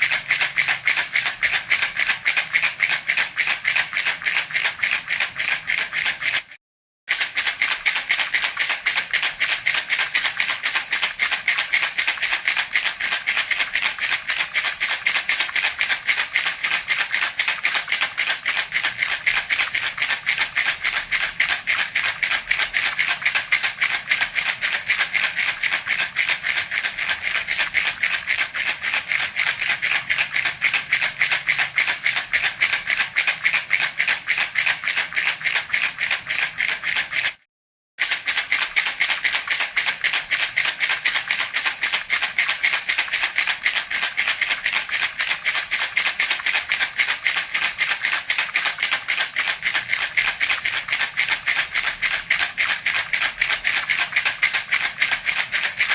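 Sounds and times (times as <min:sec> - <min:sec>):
baby rattle shaken rapidly: 0:00.0 - 0:37.4, 0:38.0 - 0:55.9.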